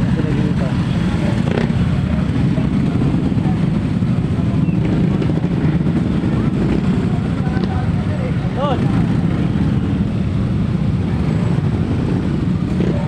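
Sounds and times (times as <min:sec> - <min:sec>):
vehicles engine and road noise: 0:00.0 - 0:13.0.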